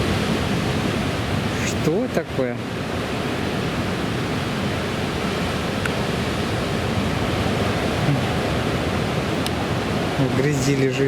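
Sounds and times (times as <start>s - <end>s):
heavy surf rushing: 0.0s - 11.0s.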